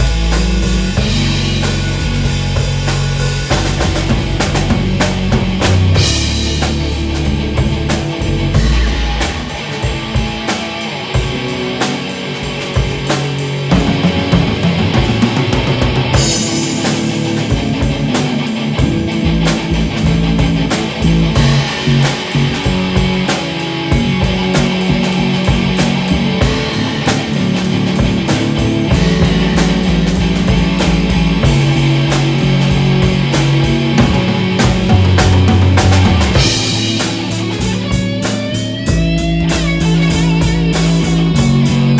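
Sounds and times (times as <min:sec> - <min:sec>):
low bass notes: 0:00.0 - 0:10.5, 0:12.8 - 0:41.9
ambient effects: 0:00.0 - 0:12.6, 0:13.2 - 0:41.9
drum kit beat: 0:00.0 - 0:41.9
electric guitars: 0:00.0 - 0:41.9.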